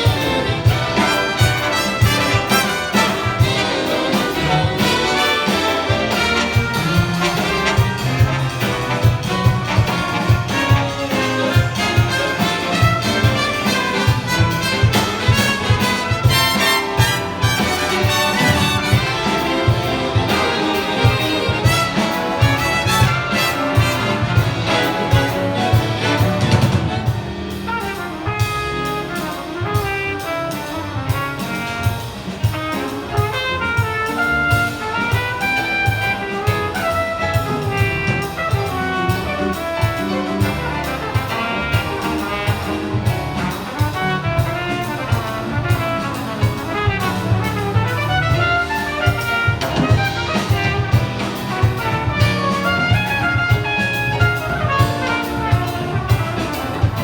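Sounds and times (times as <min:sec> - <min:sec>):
big band playing jazz: 0:00.0 - 0:57.0.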